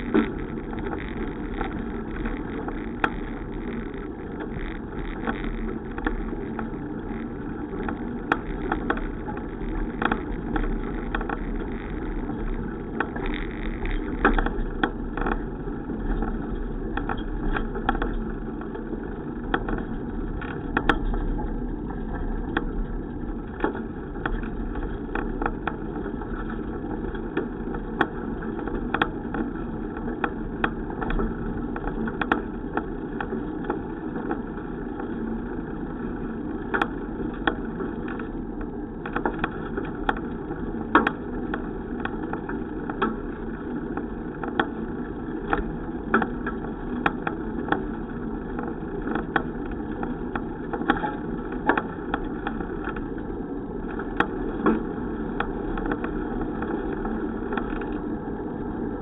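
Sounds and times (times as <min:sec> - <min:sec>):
bicycle ride rumbling: 0:00.0 - 0:59.0.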